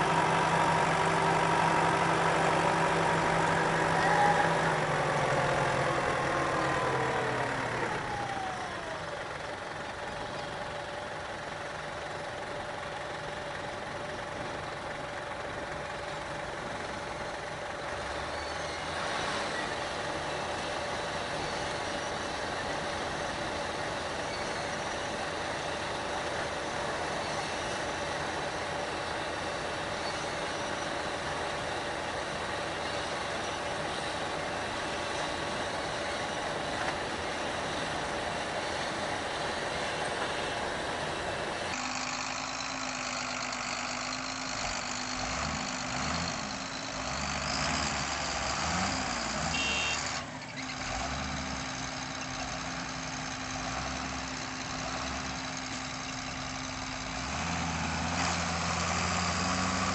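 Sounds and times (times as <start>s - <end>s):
combine harvester diesel engine: 0.0s - 59.9s
tractor engines revving: 0.0s - 59.9s.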